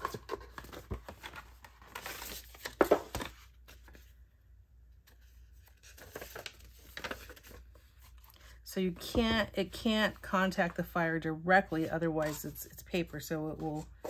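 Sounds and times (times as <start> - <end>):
paper and card rustling: 0.0 - 4.2, 5.0 - 10.9, 11.6 - 14.0.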